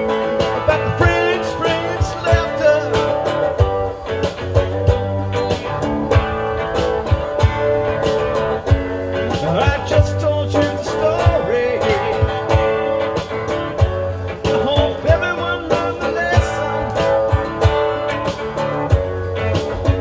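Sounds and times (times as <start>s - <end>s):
guitar playing: 0.0s - 20.0s
low thumping beat: 0.0s - 20.0s.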